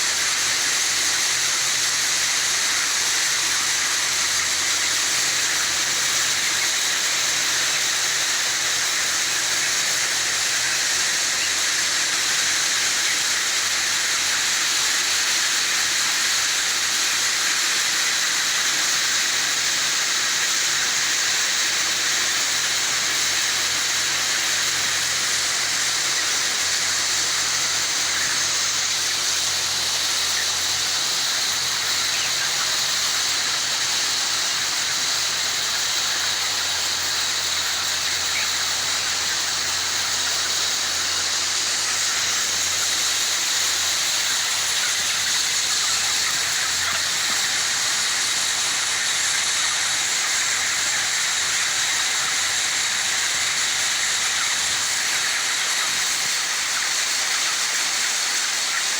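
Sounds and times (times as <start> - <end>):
steady hissing din: 0.0 - 58.9.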